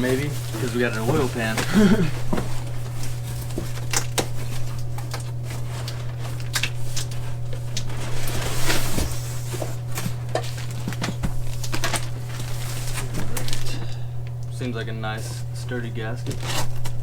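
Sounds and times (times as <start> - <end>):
packaging rustling: 0.0 - 14.3
steady low hum: 0.0 - 17.0.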